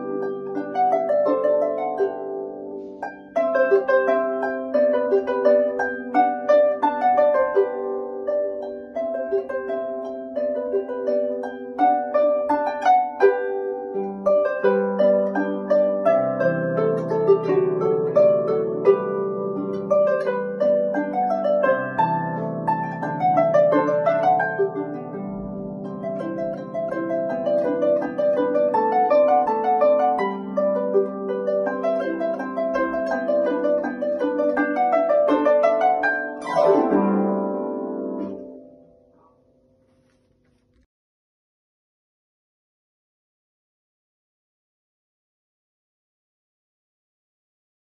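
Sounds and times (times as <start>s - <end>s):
harp plucked notes: 0.0s - 39.3s.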